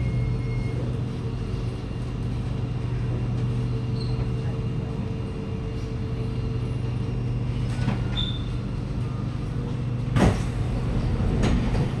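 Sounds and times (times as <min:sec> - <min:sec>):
metro car low hum: 0:00.0 - 0:12.0.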